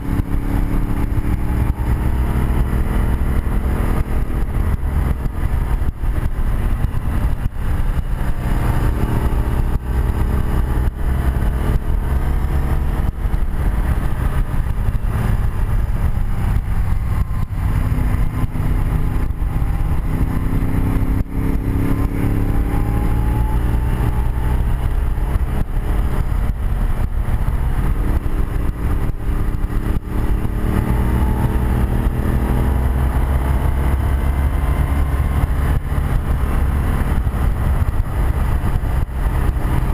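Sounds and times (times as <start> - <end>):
motorcycle engine under load: 0.0 - 39.9
wind noise: 0.0 - 39.9.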